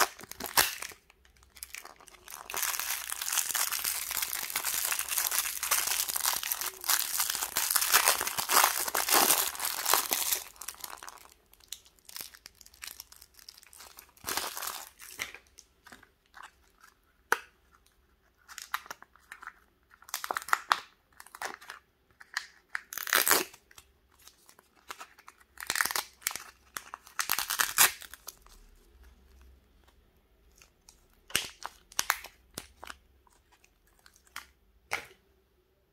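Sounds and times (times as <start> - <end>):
plastic wrapper crinkling and tearing: 0.0 - 34.6.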